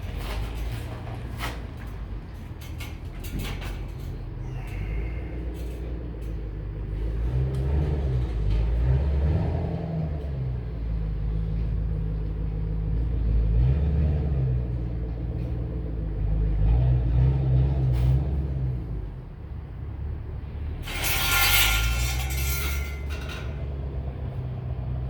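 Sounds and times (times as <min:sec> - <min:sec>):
low mechanical rumble: 0:00.0 - 0:25.0.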